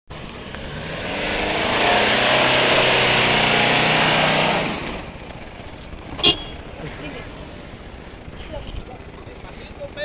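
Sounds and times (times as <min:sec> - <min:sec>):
engine working hard: 0:00.1 - 0:10.0.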